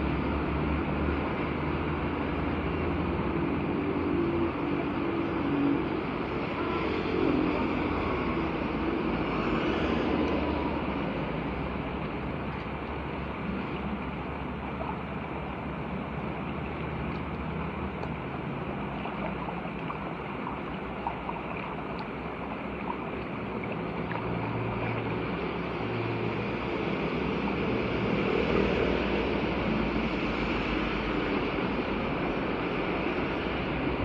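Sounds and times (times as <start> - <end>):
floodwater rushing into drain: 0.0 - 34.0.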